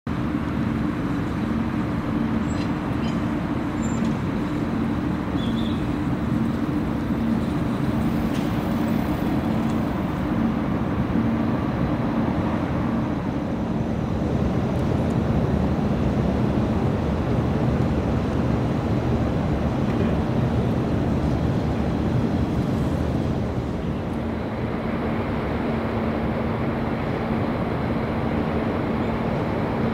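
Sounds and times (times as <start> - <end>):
diesel locomotive engine humming: 0.1 - 29.9.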